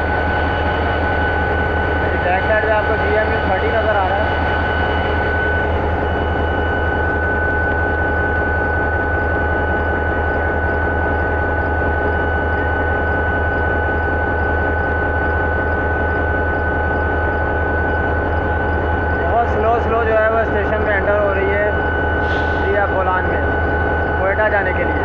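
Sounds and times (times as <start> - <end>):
high whine: 0.0 - 25.0
locomotive engine droning: 0.0 - 25.0.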